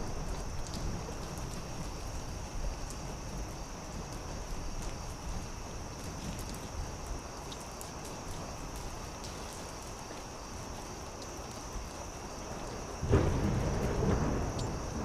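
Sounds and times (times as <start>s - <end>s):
campfire crackling and popping: 0.0s - 15.0s
high-pitched insect chorus: 0.0s - 15.0s.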